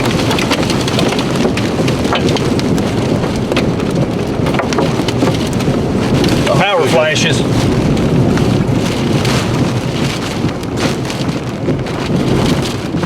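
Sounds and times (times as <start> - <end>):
heavy rain and wind on vehicle: 0.0 - 13.0
sharp raindrop hits: 0.0 - 13.0.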